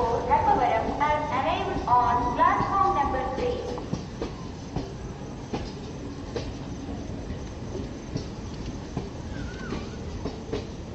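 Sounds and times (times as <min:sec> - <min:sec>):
train coaches rumbling past: 0:00.0 - 0:10.9
wheels clacking over rail joints: 0:00.0 - 0:10.9.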